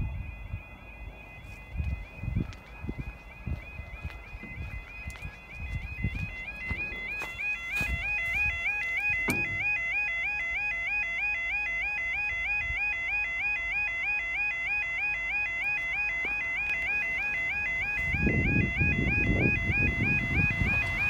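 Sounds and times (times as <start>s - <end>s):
level crossing alarm yelping: 0.0s - 21.0s.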